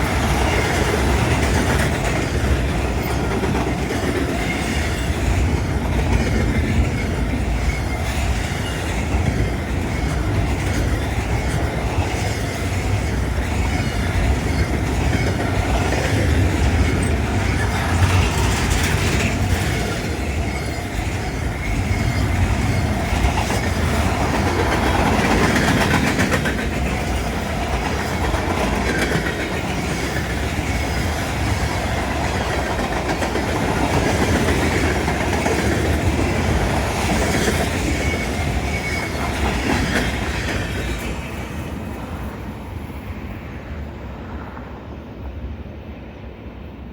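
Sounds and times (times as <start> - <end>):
freight train wheels clattering: 0.0 - 42.2.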